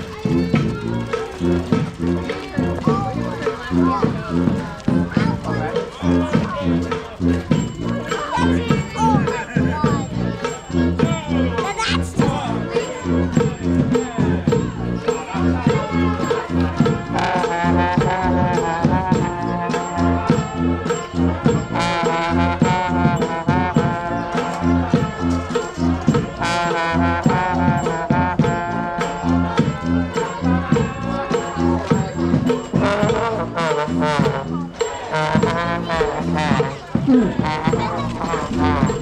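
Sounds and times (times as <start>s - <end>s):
brass band playing: 0.0s - 39.0s
drums: 0.0s - 39.0s.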